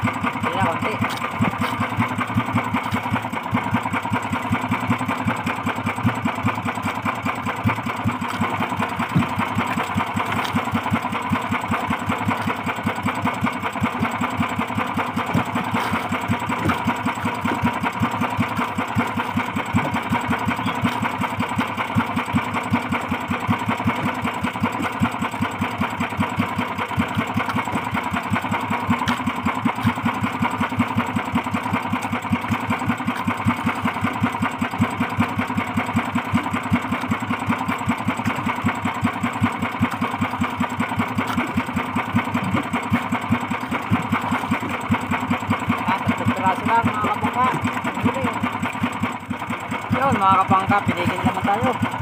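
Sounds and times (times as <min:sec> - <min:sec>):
small boat engine idling: 0:00.0 - 0:52.0.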